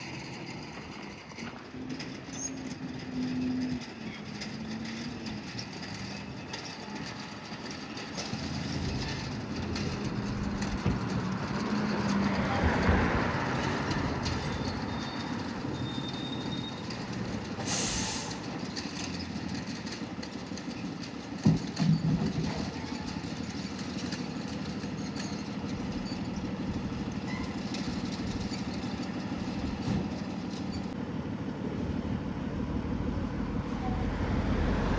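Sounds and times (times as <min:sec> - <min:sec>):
fire trucks driving past: 0:00.0 - 0:34.9.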